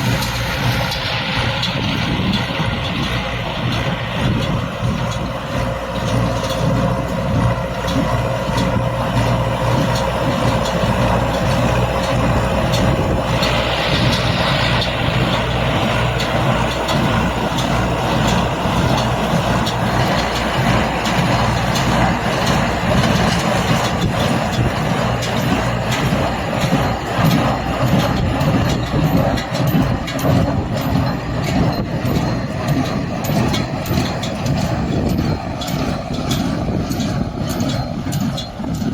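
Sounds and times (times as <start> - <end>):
baler machinery clatter: 0.0 - 38.9
tractor engine hum: 0.0 - 38.9.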